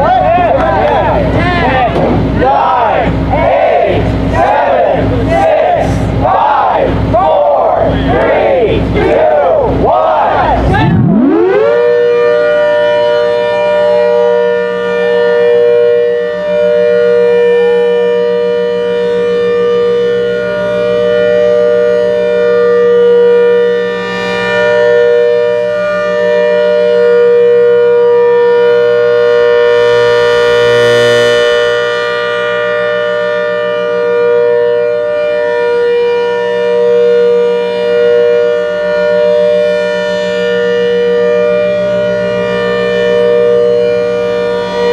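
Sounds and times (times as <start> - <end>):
rotating siren two-tone chord: 0.0 - 44.9.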